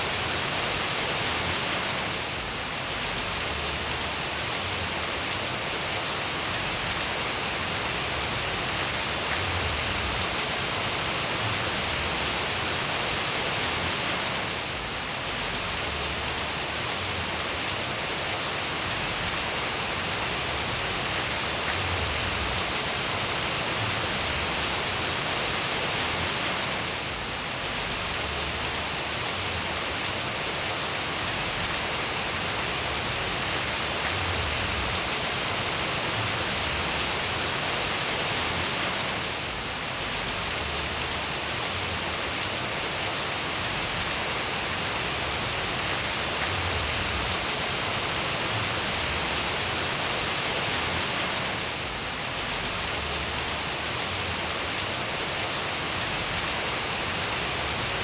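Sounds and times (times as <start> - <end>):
dense rainfall hissing: 0.0 - 58.0.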